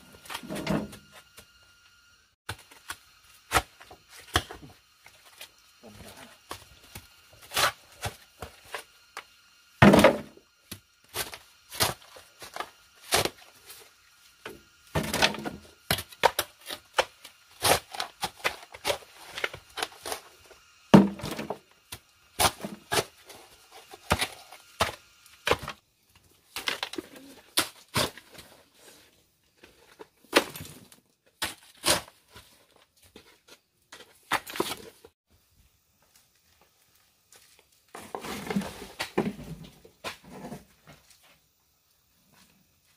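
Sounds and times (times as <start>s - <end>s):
shovel digging and scraping soil: 2.5s - 25.8s, 26.4s - 35.1s, 37.4s - 41.4s.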